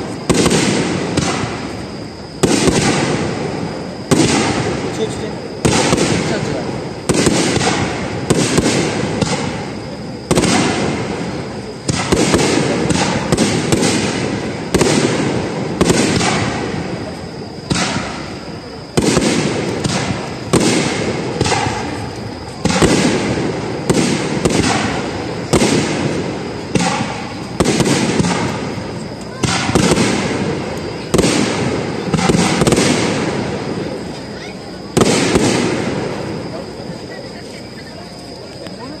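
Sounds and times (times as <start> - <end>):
firework shells bursting: 0.0 - 34.2.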